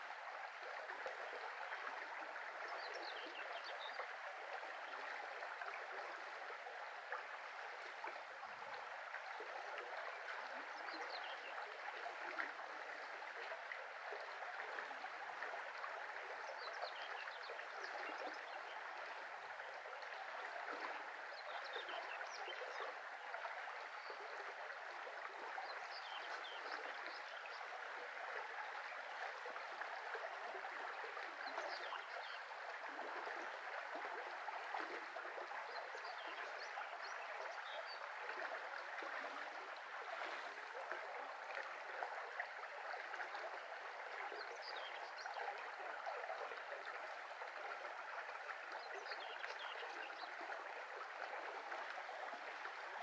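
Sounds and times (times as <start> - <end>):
brook babbling: 0.0 - 53.0.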